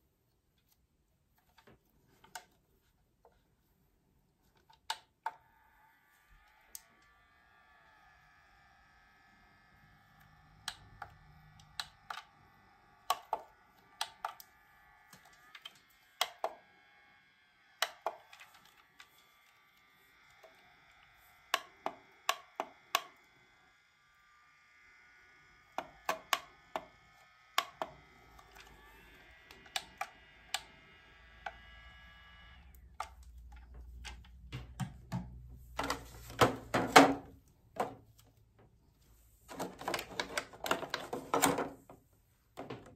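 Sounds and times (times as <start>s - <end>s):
faint high electronic whine: 5.2s - 42.9s.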